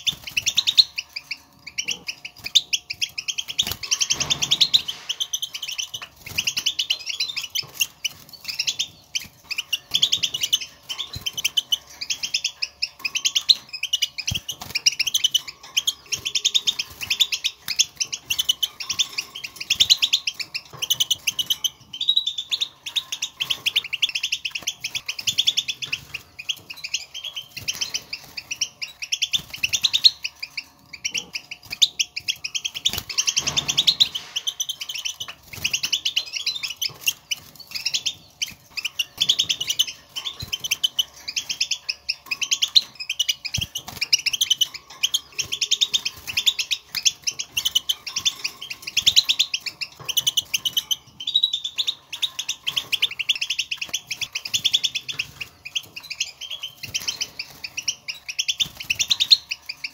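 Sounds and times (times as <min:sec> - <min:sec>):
goldfinch twittering: 0:00.0 - 0:59.9.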